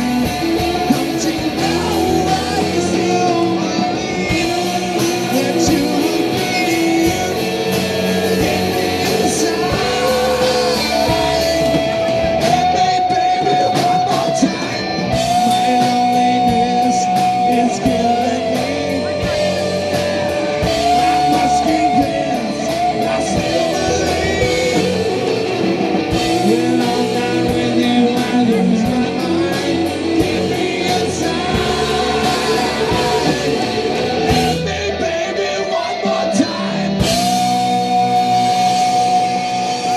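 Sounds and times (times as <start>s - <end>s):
electric guitar lead notes: 0.0s - 39.9s
live rock band playing: 0.0s - 39.9s.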